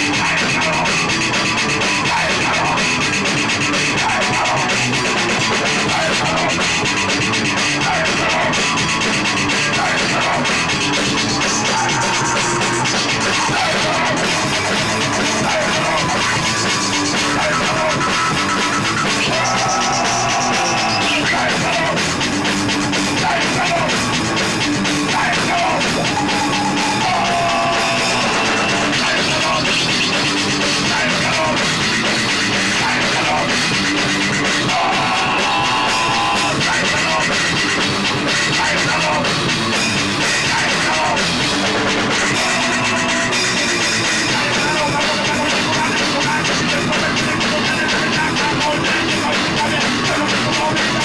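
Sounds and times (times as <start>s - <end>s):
loud rock music with drums: 0.0s - 51.0s.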